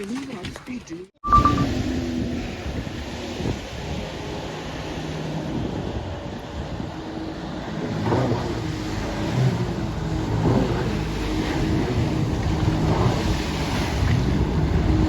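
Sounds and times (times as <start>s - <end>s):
motorboat engine running: 1.2s - 15.0s
wind and water rushing: 1.2s - 15.0s.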